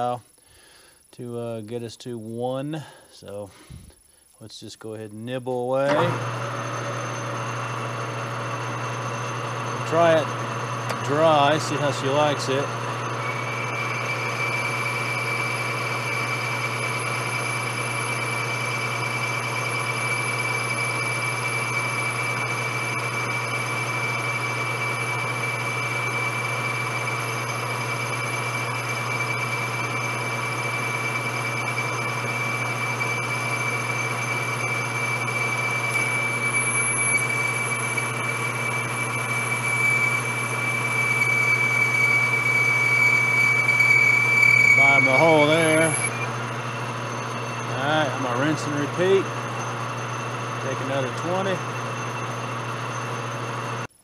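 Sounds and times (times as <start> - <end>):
metal lathe whining: 5.8 - 53.9.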